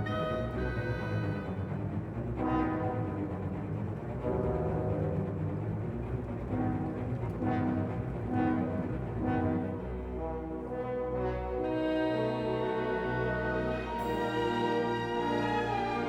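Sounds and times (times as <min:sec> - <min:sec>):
orchestral music with brass: 0:00.0 - 0:16.0.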